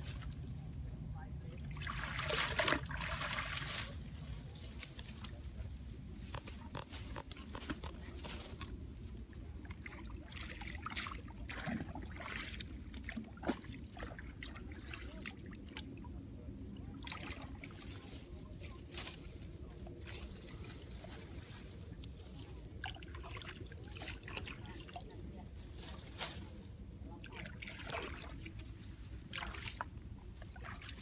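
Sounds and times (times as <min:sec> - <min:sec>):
muddy water splashing: 0:00.0 - 0:31.0.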